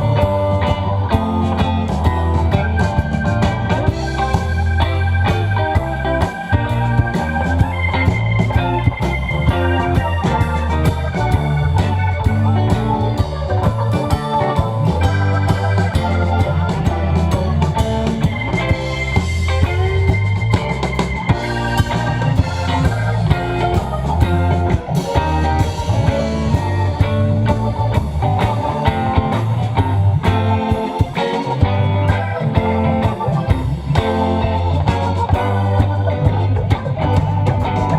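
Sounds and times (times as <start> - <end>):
electric guitar: 0.0 - 37.9
rock band playing: 0.0 - 37.9.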